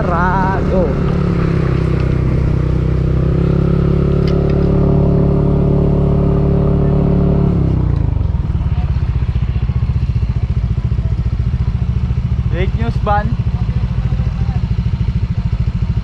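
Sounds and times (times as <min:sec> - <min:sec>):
scooter engine running and idling: 0:00.0 - 0:16.0.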